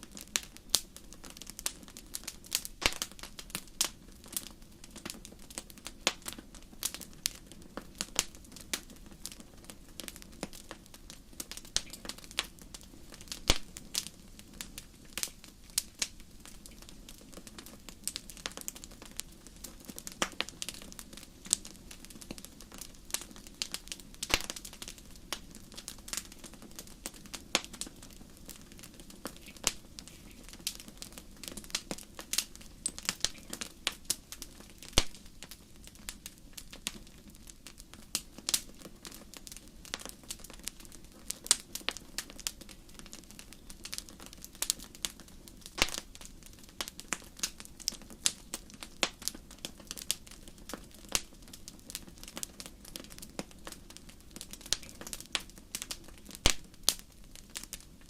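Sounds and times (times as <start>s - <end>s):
fire crackling and popping: 0.0s - 58.0s
soft steady hiss: 0.0s - 58.0s.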